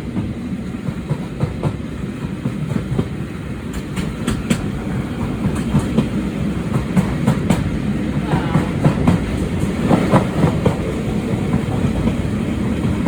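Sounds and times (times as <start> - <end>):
train wheels rumbling on rails: 0.0 - 13.0
wheels clicking over rail joints: 0.2 - 13.0.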